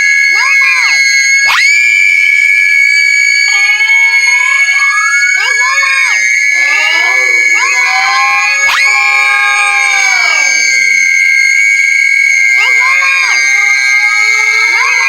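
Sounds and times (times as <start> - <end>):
high shrieking screams: 0.0 - 15.0
steady piercing high tone: 0.0 - 15.0.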